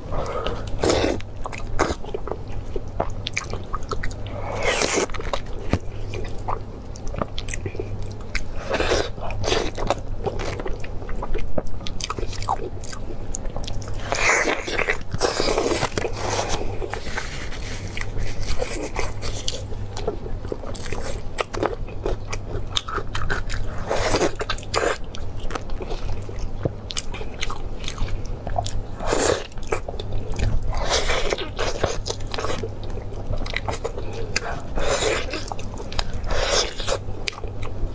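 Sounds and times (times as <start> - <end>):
chewing with wet mouth sounds: 0.0 - 37.9
steady low hum: 0.0 - 37.9.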